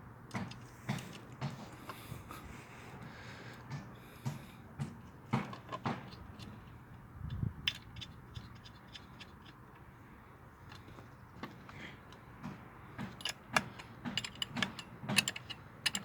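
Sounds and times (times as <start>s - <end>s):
hand tools and metal parts handled: 0.3s - 2.4s, 3.5s - 10.0s, 10.6s - 16.0s.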